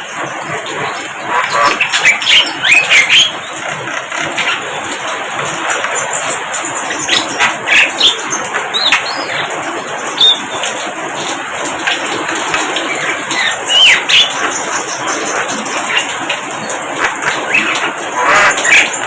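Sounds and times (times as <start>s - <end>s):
birds chirping and whistling: 0.5s - 11.3s, 11.9s - 19.0s.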